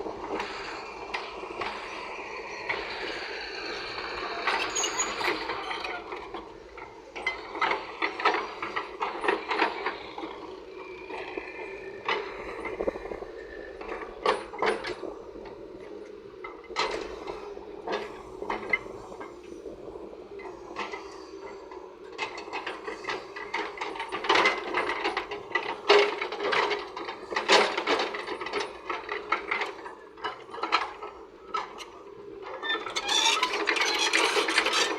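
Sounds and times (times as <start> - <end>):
excavator engine hum: 0.0 - 34.9.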